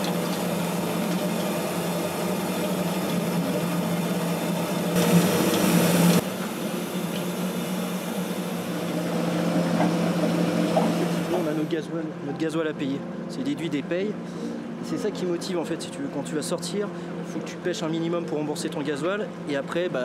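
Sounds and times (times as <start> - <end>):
boat engine and hauler humming: 0.0 - 20.0.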